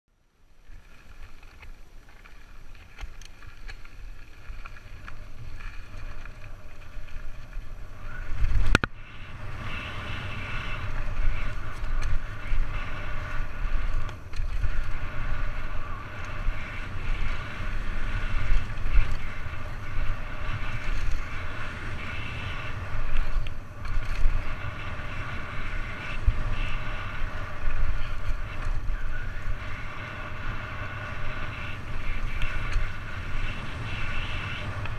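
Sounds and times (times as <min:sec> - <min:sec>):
steady whir: 0:00.1 - 0:34.9
tyres rumbling over dirt: 0:00.6 - 0:34.9
wind rushing over microphone: 0:04.1 - 0:34.9.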